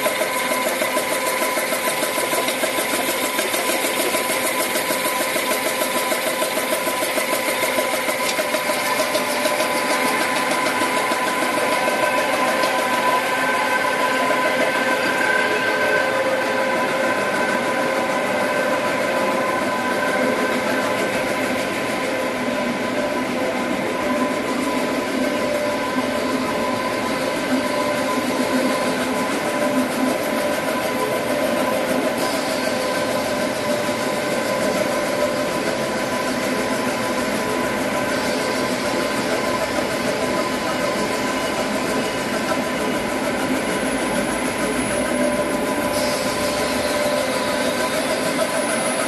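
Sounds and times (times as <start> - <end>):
machine whining tones: 0.0 - 49.0
printing machine whirring: 0.0 - 49.0.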